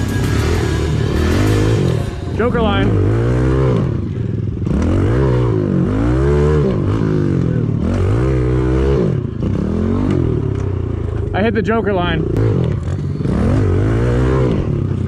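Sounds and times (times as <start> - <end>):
pit bike engine revving: 0.0 - 15.0.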